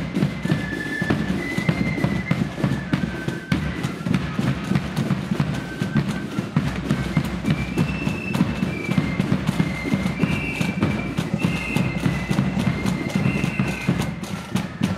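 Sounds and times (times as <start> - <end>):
high flute melody: 0.0 - 14.9
rapid heavy snare drumming: 0.0 - 14.9.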